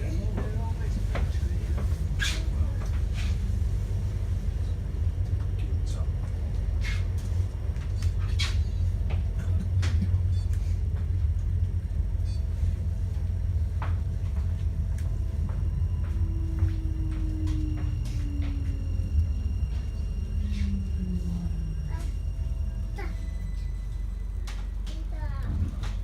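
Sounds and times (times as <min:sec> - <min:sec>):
tram cabin rumble: 0:00.0 - 0:26.0.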